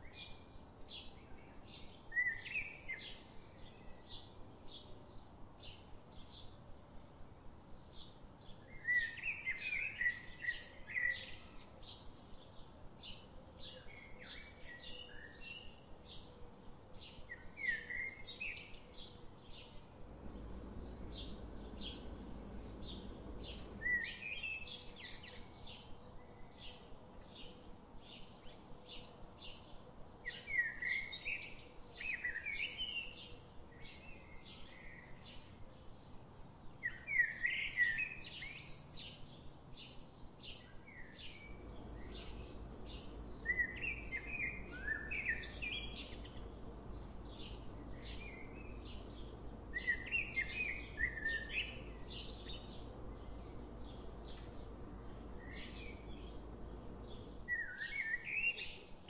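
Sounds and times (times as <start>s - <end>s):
songbird singing warbled phrases: 0.0s - 6.6s, 8.0s - 16.3s, 17.1s - 26.8s, 29.5s - 59.0s.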